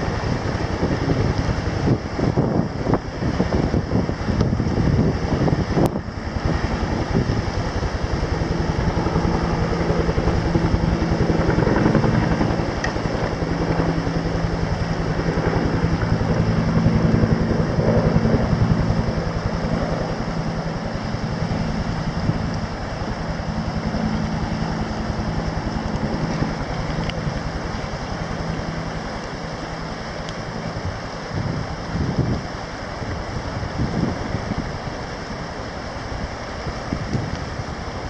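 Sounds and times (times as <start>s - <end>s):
helicopter rotor beat: 0.0s - 38.0s
helicopter turbine whine: 0.0s - 38.0s.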